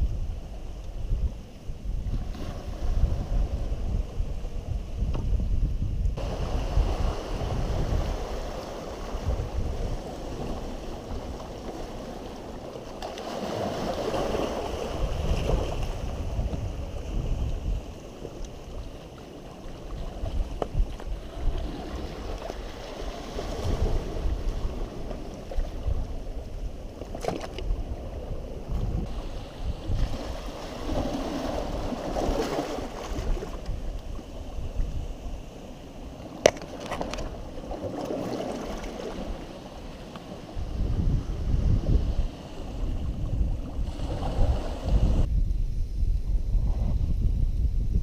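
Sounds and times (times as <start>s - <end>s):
wind buffeting microphone: 0.0s - 48.0s
ocean waves washing onto beach: 6.2s - 45.3s.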